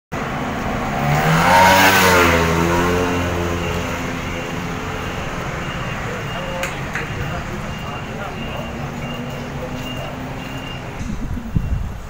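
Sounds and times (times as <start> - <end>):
steady traffic hum: 0.1 - 12.0
vehicle engine passing by: 0.2 - 11.6.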